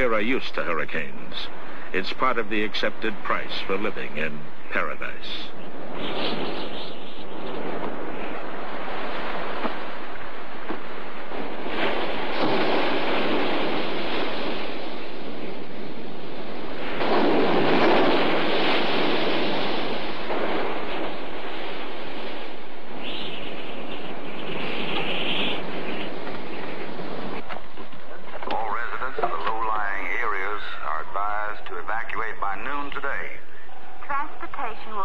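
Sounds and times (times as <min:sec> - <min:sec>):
storm waves breaking: 0:00.0 - 0:35.0
wind: 0:00.0 - 0:35.0.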